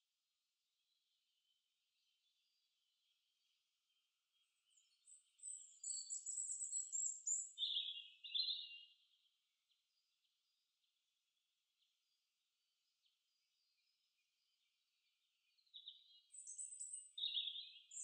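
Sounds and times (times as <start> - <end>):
faint bird chirping: 0.8 - 18.0.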